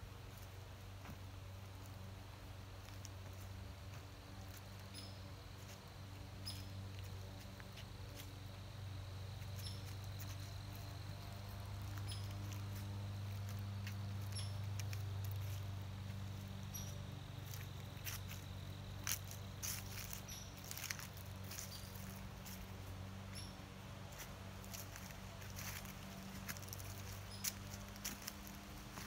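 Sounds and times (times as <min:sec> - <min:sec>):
steady low hum: 0:00.0 - 0:29.0
footsteps crunching dry leaves: 0:02.8 - 0:29.0.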